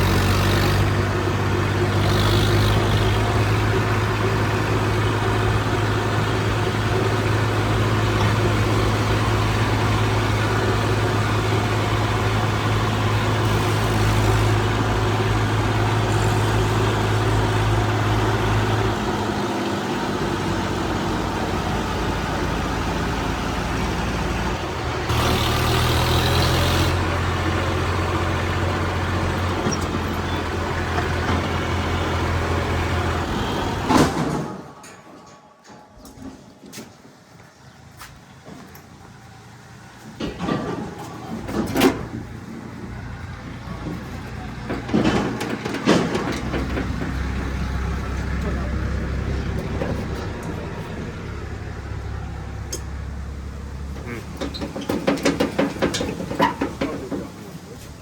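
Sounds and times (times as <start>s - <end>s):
heavy diesel engine droning: 0.0s - 37.6s, 38.3s - 58.0s.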